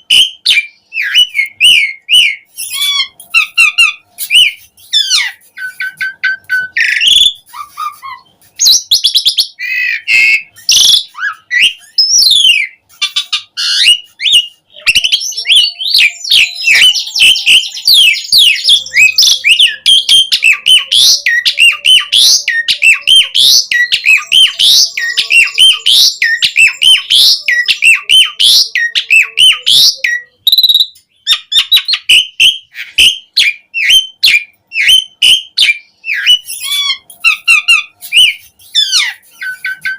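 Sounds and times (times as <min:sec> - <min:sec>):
starling singing whistles and chatter: 0:00.0 - 0:39.9.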